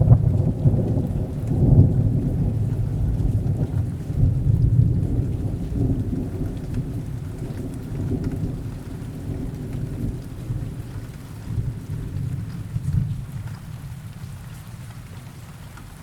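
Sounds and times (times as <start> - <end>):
low rumble of thunder: 0.0 - 16.0
rain falling: 0.0 - 16.0.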